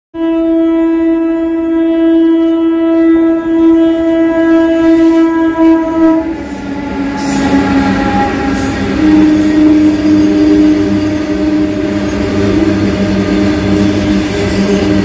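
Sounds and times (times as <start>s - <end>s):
locomotive horn long note: 0.2s - 15.0s.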